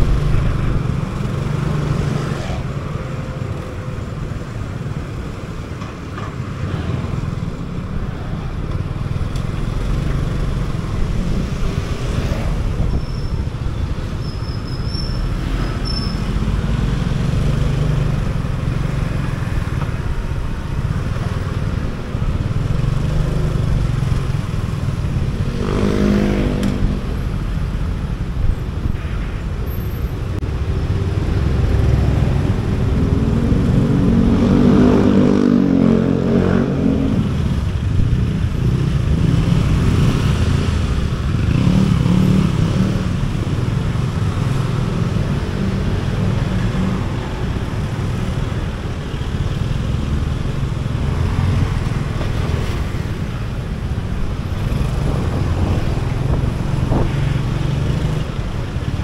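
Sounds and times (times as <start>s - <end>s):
motorcycle engine and road rumble: 0.0s - 59.0s.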